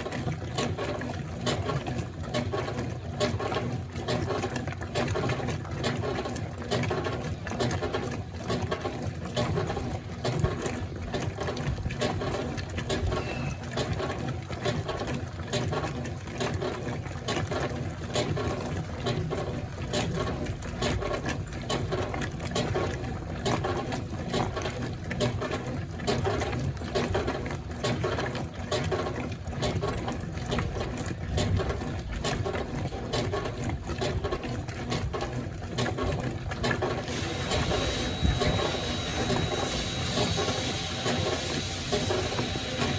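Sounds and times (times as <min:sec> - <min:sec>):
washing machine motor running: 0:00.0 - 0:42.9
water sloshing in tub: 0:00.0 - 0:42.9.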